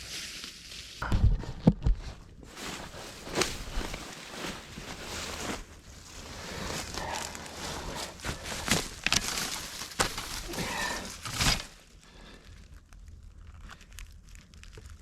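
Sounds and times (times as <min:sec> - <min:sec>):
rustling through brush: 0:00.0 - 0:01.0, 0:02.0 - 0:15.0.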